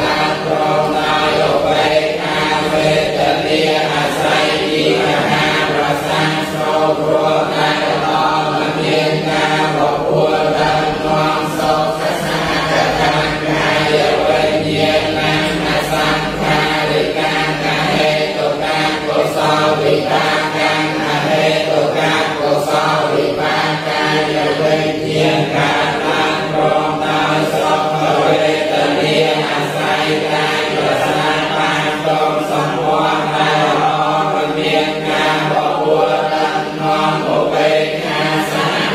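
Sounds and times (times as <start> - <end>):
group chanting in unison: 0.0 - 38.9.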